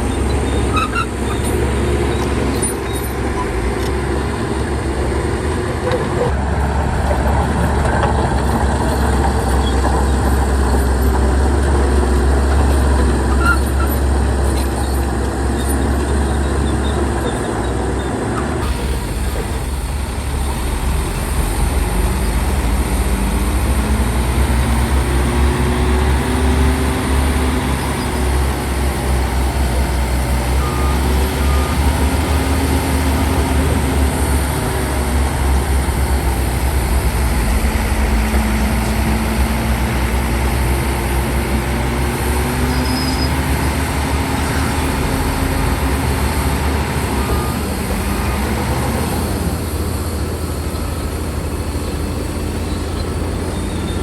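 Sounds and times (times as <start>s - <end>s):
heavy diesel engine rumble: 0.0s - 54.0s.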